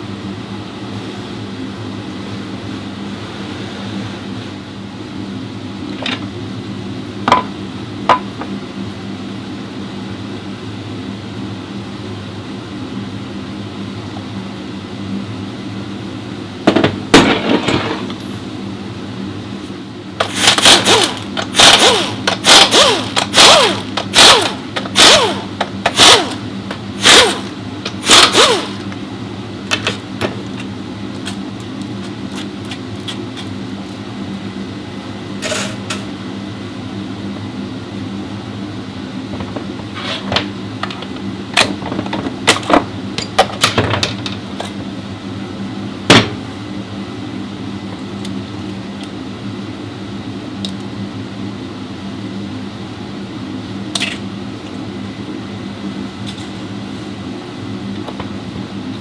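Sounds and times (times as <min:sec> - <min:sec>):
steady workshop hum: 0:00.0 - 0:59.0.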